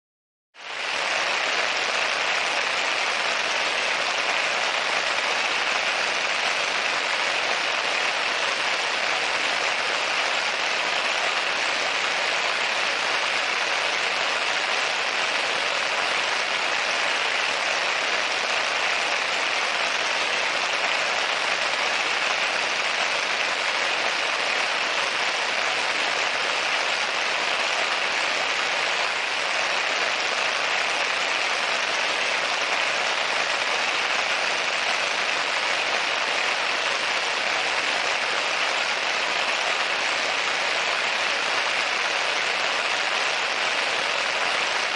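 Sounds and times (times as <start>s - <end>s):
rain on a window: 0.6s - 44.9s.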